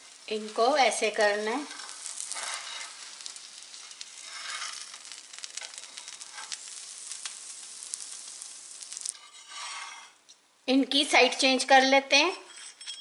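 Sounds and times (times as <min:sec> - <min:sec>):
oil sizzling with pops: 0:00.0 - 0:12.1.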